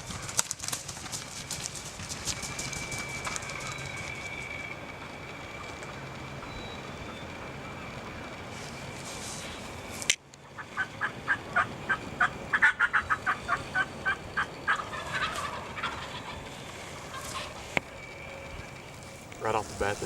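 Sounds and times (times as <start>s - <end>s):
wild turkeys calling: 0.0s - 20.0s.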